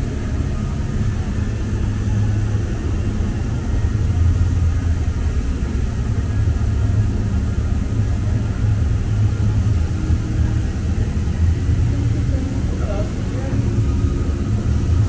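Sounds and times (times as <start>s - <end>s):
light-rail car rumbling on track: 0.0s - 15.0s.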